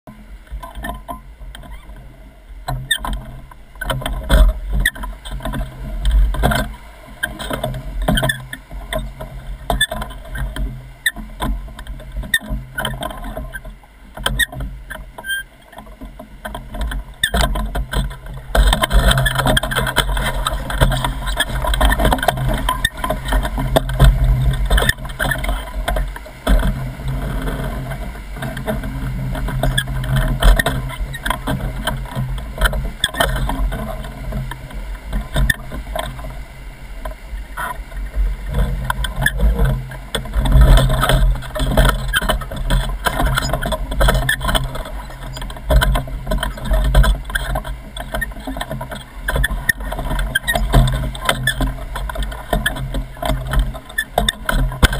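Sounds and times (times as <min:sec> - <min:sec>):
oars knocking: 0:02.7 - 0:36.4, 0:37.0 - 0:54.9.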